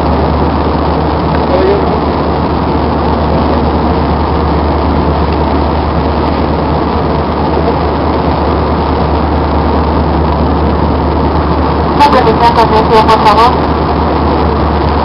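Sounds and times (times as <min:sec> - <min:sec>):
low constant hum: 0:00.0 - 0:15.0.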